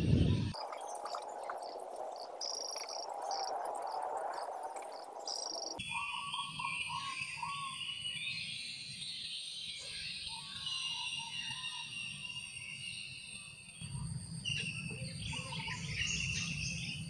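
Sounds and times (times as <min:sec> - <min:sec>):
crickets chirping: 0:00.5 - 0:17.0
mid-pitched insect chirping: 0:00.5 - 0:17.0.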